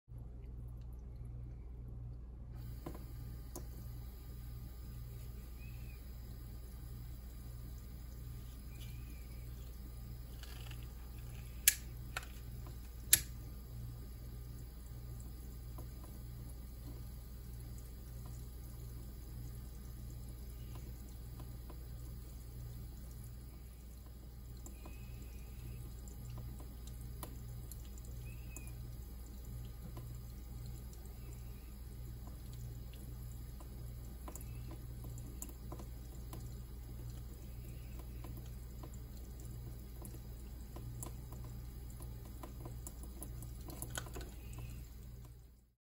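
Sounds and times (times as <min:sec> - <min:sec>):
low hum: 0:00.1 - 0:41.4
tap water running into sink: 0:02.6 - 0:13.6, 0:14.2 - 0:45.7.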